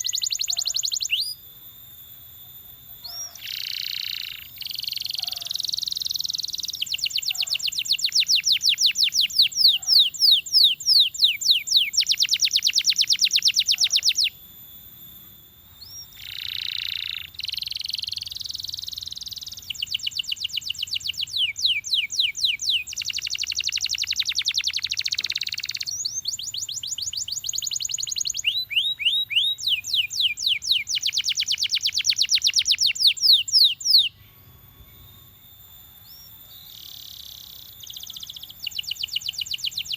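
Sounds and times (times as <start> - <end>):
canary singing: 0.0 - 1.4, 2.8 - 14.4, 15.8 - 39.9.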